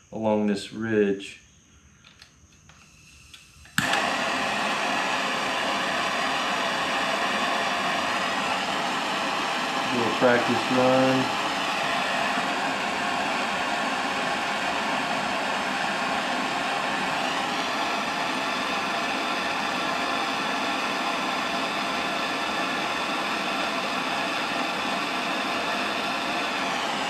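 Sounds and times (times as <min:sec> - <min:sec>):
blower whirring: 0:02.1 - 0:27.0.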